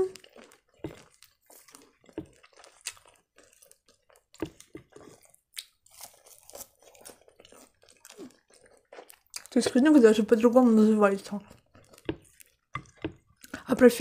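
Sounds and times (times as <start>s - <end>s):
chewing crunchy food: 0.0s - 13.7s.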